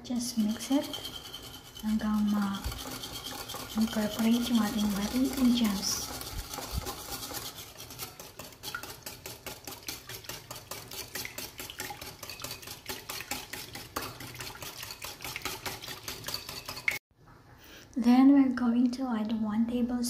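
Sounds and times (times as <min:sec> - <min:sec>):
wire whisk beating batter in bowl: 0:00.0 - 0:17.0.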